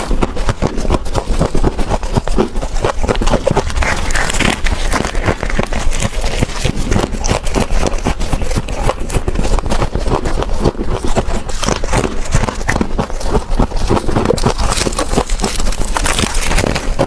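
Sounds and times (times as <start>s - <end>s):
frost ice crunching: 0.0s - 17.0s.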